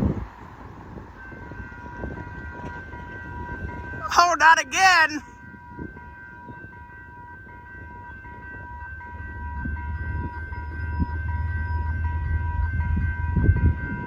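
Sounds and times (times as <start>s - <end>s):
train rumble: 0.0s - 4.1s, 5.3s - 14.0s
crossing warning bell ringing: 0.6s - 14.0s.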